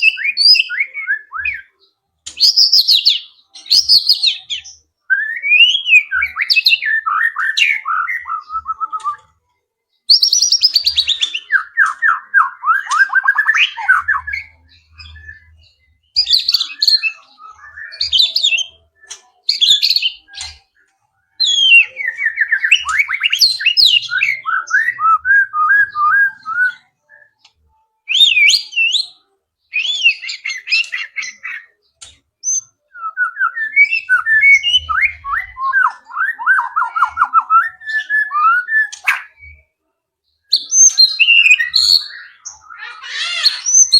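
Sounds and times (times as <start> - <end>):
songbird singing whistled phrases: 0.0 - 9.4, 10.0 - 43.9.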